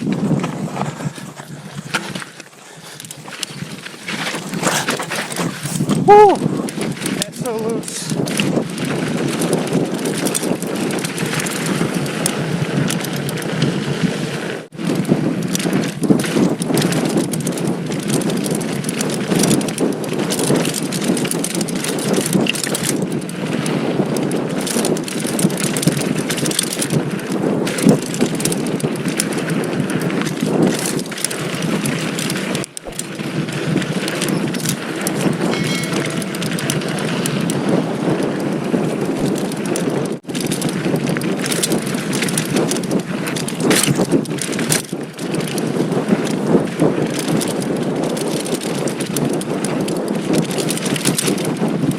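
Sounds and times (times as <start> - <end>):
bike rattling: 0.0 - 51.9
tyres on loose dirt and rocks: 0.0 - 51.9.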